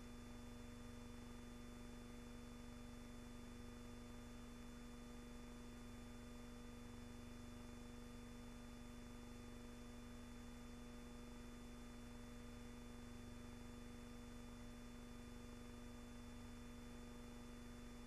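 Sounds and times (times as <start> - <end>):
faint hum with hiss: 0.0 - 18.0.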